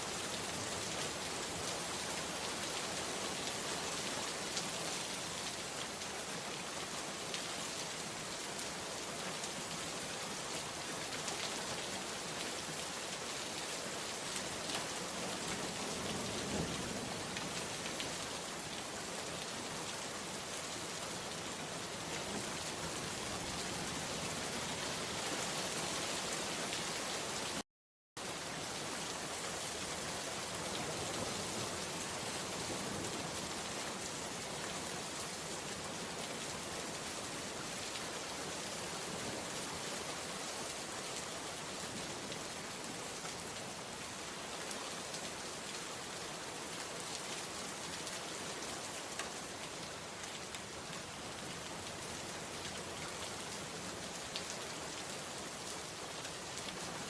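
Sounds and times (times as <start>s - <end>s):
rain falling: 0.0s - 27.6s, 28.2s - 57.0s.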